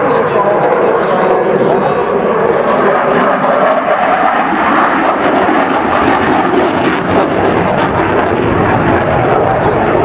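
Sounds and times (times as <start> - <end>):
aircraft engine in flight: 0.0 - 10.0.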